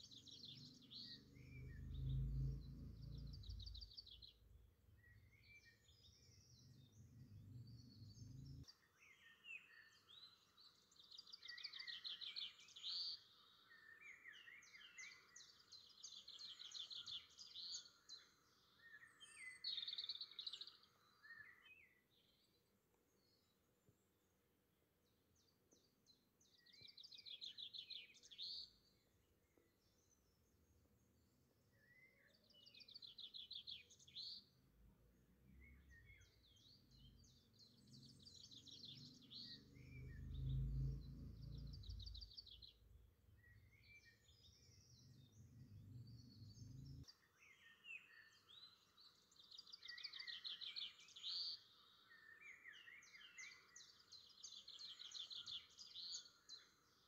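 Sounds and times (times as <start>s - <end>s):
birdsong trills and chirps: 0.0s - 24.3s, 25.0s - 57.0s.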